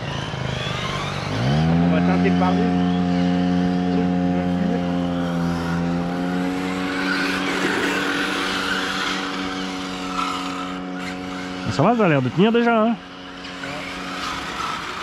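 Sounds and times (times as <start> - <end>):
steady pitched hum: 0.0 - 15.0
tyres skidding: 0.0 - 15.0.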